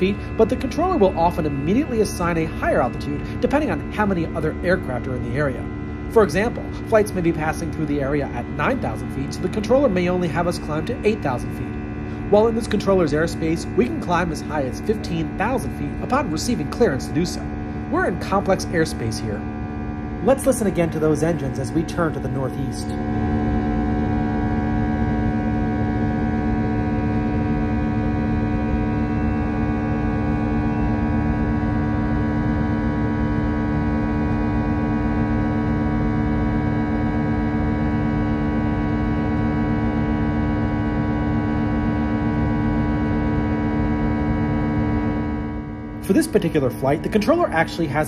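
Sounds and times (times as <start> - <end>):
jet engines humming in cabin: 0.0 - 48.0.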